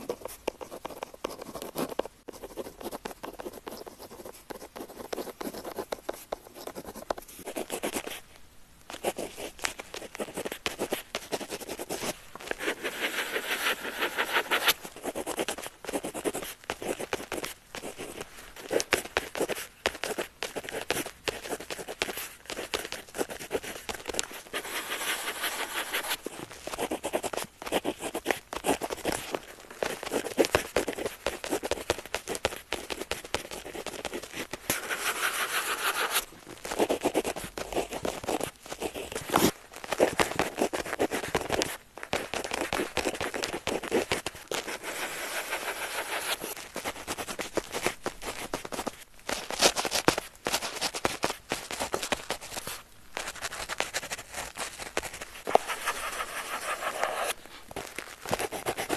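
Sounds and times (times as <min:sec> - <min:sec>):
pen scratching on paper: 0:00.0 - 0:08.2, 0:09.0 - 0:47.4, 0:55.4 - 0:57.4, 0:58.3 - 0:58.9.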